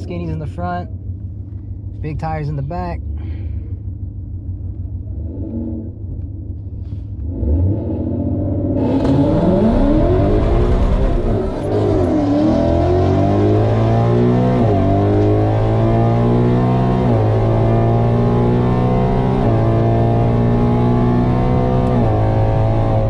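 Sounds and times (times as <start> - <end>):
car engine idling and accelerating: 0.0 - 23.0.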